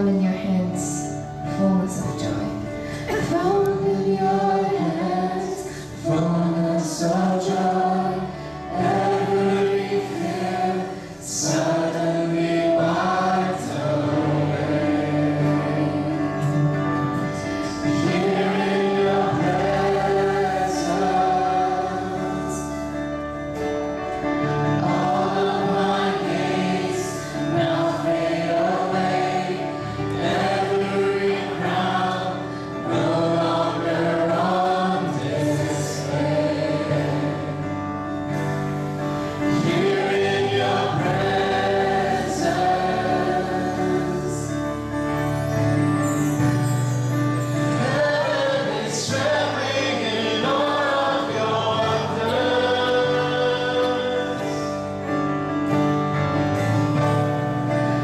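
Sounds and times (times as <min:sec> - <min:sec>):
group singing worship song: 0:00.0 - 0:23.3, 0:24.4 - 0:55.1
acoustic guitar: 0:00.0 - 0:58.0
sustained instrumental backing: 0:00.0 - 0:58.0.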